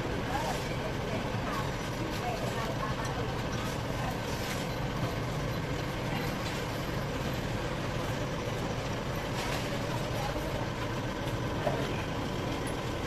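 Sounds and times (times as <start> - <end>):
street ambience rumble: 0.0 - 13.0.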